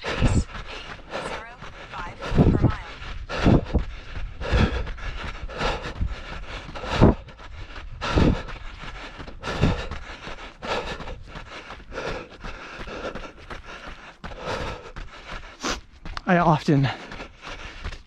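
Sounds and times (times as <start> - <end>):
runner breathing hard: 0.0 - 18.0.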